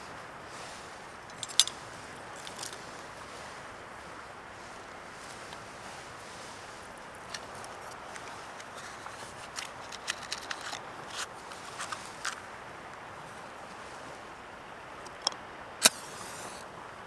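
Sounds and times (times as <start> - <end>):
ocean waves washing: 0.0 - 17.0.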